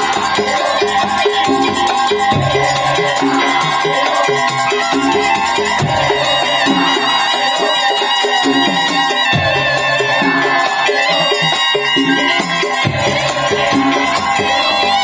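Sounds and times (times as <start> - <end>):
percussion ensemble fast rhythm: 0.0 - 15.0.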